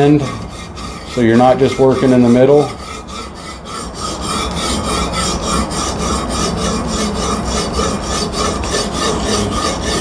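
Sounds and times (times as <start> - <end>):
sharpening stone rasping on knife: 0.0 - 10.0.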